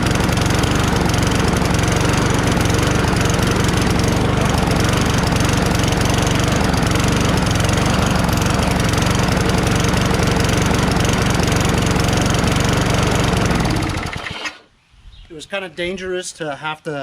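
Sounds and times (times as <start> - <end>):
lawn mower engine running: 0.0 - 14.7.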